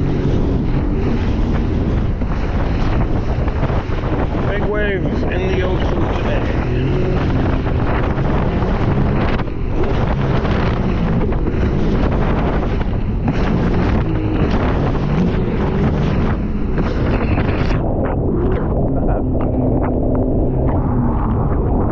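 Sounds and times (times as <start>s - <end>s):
personal watercraft engine running: 0.0s - 21.9s
water rushing: 0.0s - 21.9s
wind buffeting microphone: 0.0s - 21.9s.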